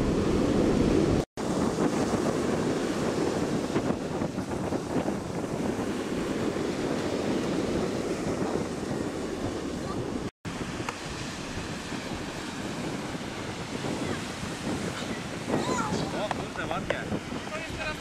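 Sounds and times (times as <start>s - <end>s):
small waves breaking on shore: 0.0s - 18.0s
wind buffeting microphone: 0.0s - 18.0s.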